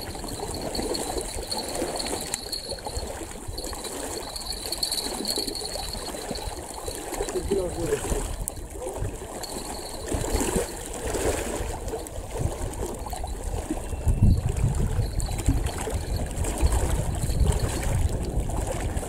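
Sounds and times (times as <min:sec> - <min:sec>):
water splashing and trickling: 0:00.0 - 0:19.0
wind rumble on microphone: 0:00.0 - 0:19.0.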